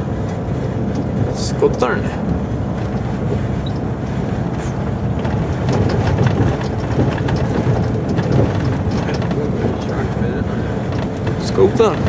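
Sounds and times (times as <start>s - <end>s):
road noise: 0.0s - 12.0s
truck diesel engine running: 0.0s - 12.0s.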